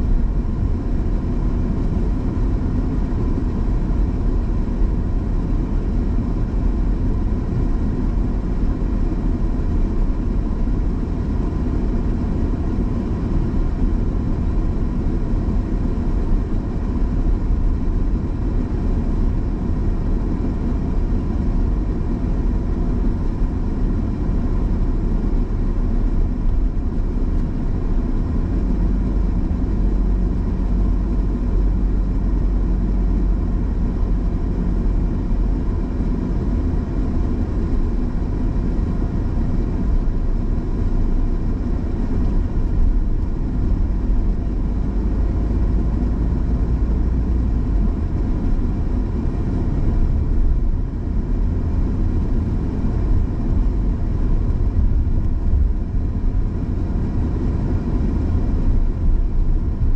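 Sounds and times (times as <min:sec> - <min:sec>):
car engine rumble: 0:00.0 - 0:59.9
tyres on road: 0:00.0 - 0:59.9.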